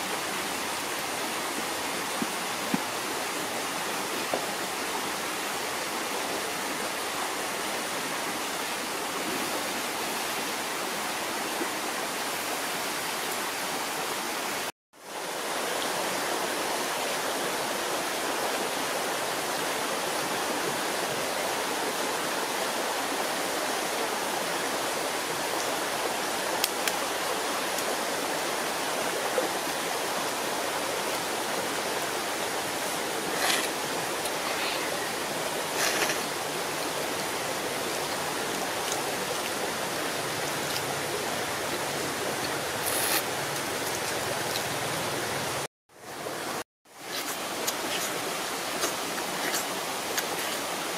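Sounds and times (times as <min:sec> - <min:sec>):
stream flowing: 0:00.0 - 0:50.9.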